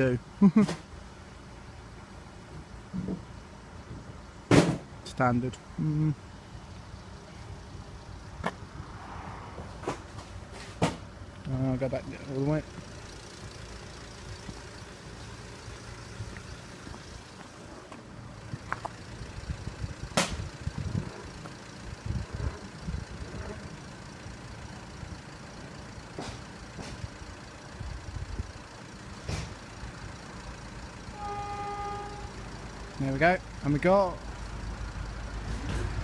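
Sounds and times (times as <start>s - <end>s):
diesel train rumble: 0.0s - 36.0s.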